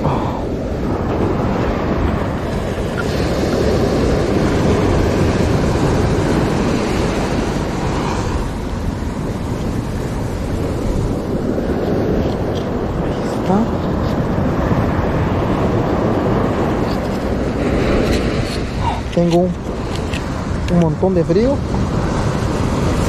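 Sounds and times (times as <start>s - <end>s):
ocean surf washing up beach: 0.0s - 23.0s
wind buffeting microphone: 0.0s - 23.0s.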